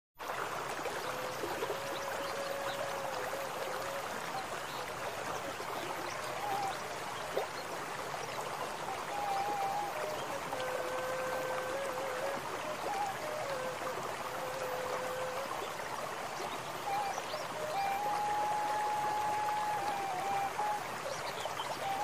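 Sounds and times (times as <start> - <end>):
stream of water running: 0.2 - 22.0.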